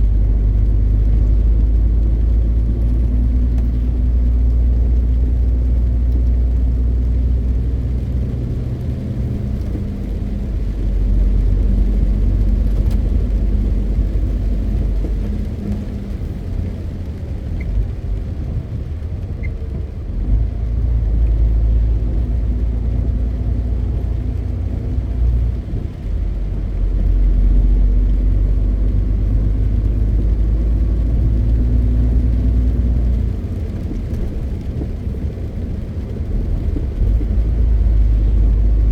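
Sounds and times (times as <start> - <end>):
road rumble: 0.0 - 38.9
truck diesel engine droning: 0.0 - 38.9.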